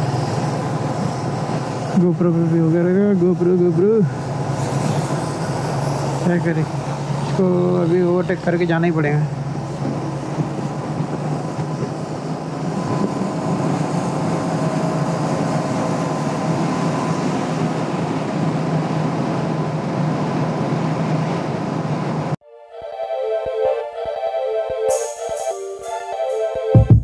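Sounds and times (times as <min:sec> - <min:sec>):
wind and road noise: 0:00.0 - 0:22.4.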